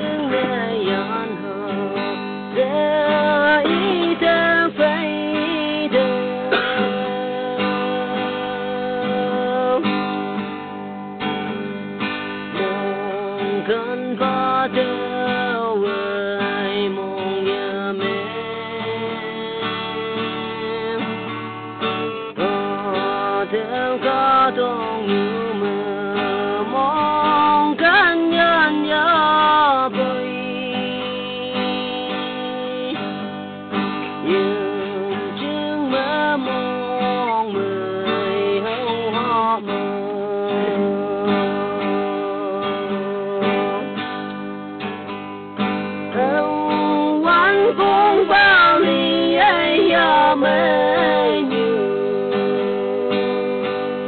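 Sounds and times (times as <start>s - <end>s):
person singing: 0.0s - 10.4s, 12.4s - 21.3s, 22.4s - 33.4s, 34.2s - 44.4s, 46.1s - 54.0s
strummed acoustic guitar: 0.0s - 54.0s.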